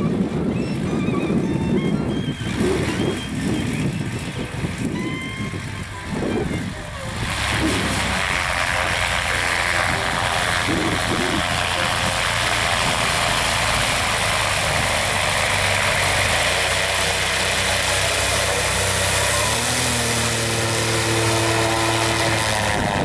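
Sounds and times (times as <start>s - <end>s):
propeller engine running: 0.0s - 23.0s.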